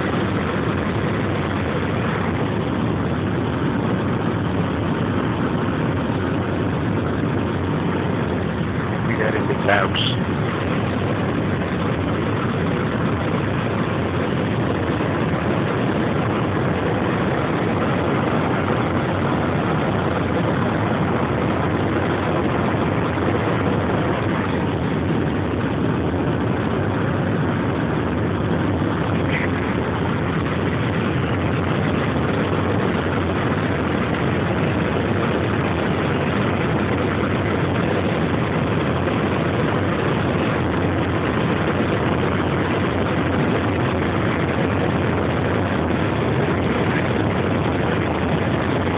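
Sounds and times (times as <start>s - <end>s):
jet engine and airflow noise: 0.0s - 48.9s.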